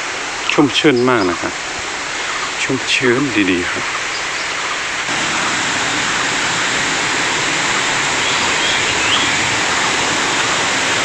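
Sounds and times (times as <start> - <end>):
rushing forest stream: 0.0 - 11.0.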